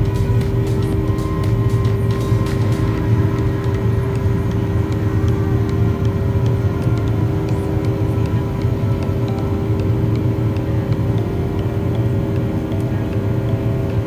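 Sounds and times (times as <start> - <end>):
aircraft cabin engine drone: 0.0 - 14.0.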